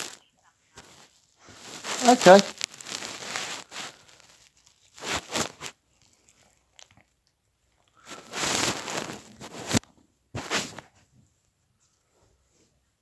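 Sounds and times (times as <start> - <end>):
rustling crackling noise: 0.0 - 12.8.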